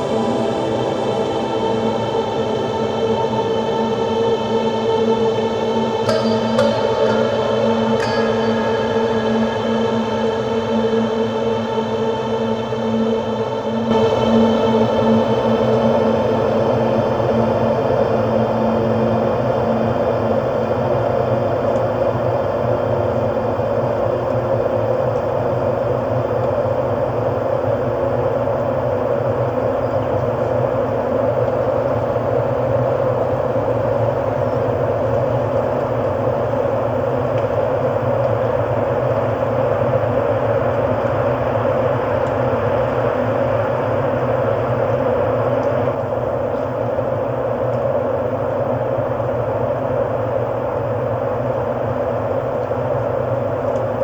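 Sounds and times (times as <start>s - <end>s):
ambient drone music: 0.0s - 54.0s.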